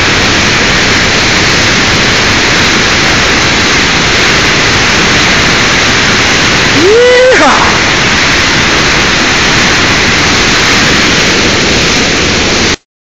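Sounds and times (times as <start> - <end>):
river rapids rushing: 0.0 - 12.8.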